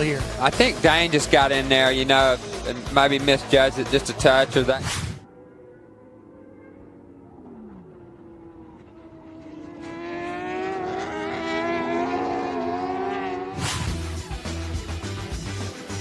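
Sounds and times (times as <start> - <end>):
racing motorcycle engines: 0.0 - 16.0.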